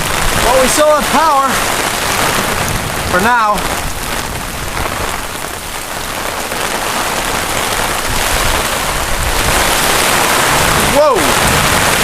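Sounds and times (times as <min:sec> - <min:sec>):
torrential rain pouring: 0:00.0 - 0:12.0
wind gusting at microphone: 0:00.0 - 0:12.0.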